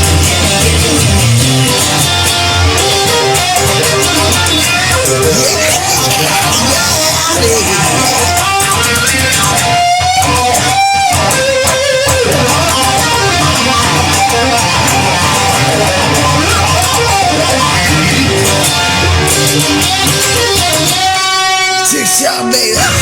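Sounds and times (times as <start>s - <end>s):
electric guitar with pitch bends: 0.0s - 23.0s
steady backing music: 0.0s - 23.0s.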